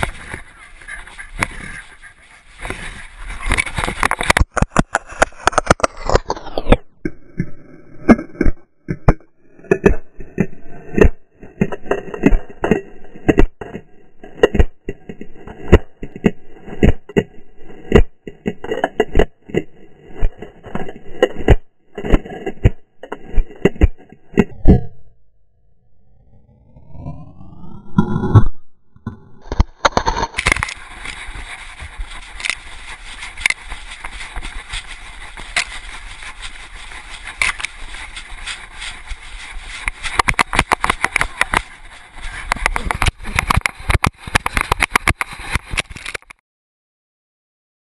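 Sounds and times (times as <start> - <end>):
camera knocking and rattling: 0.0 - 7.5, 8.1 - 24.8, 29.4 - 46.4.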